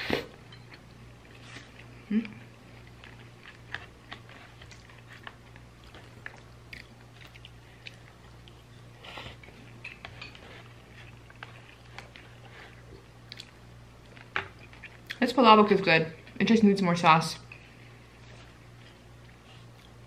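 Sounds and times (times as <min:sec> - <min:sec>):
faint low hum: 0:00.0 - 0:20.0
soft wet chewing: 0:00.5 - 0:15.2, 0:17.4 - 0:20.0.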